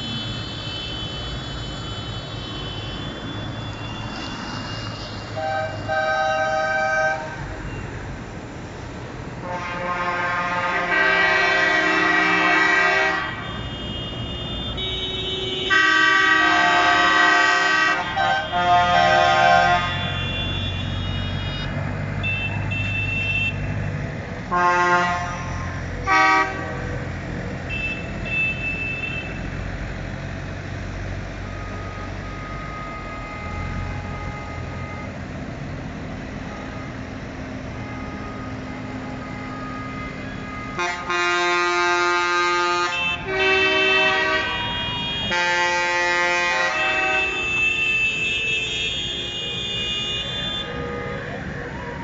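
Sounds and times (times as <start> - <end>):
tractor horns honking: 0.0 - 8.0, 9.4 - 29.7, 31.2 - 35.3, 35.9 - 52.0
tractor diesel engines: 0.0 - 52.0.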